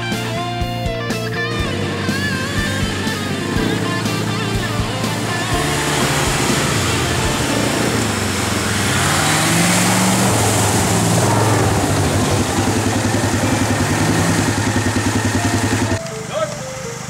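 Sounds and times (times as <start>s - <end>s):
engine revving hard: 1.4s - 16.0s
water and mud splashing: 1.4s - 16.9s.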